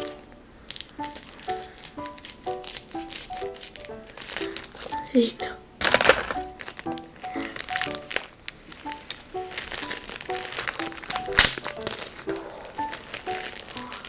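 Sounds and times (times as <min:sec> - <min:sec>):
gift packaging crinkling: 0:00.0 - 0:14.0
light melodic background music: 0:00.0 - 0:14.0.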